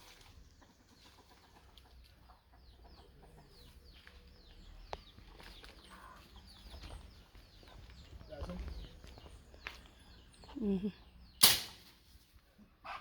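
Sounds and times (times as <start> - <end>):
fowl chirping and clucking: 0.0 - 11.4.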